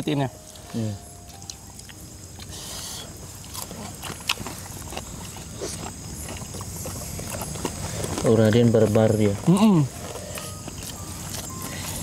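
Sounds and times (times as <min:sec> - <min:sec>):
chewing and lip-smacking: 0:01.3 - 0:12.0.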